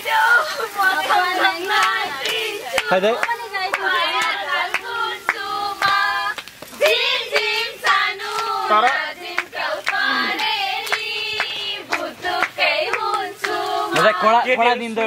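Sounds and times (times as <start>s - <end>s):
group of people singing: 0.0s - 15.0s
hand claps: 1.6s - 14.2s.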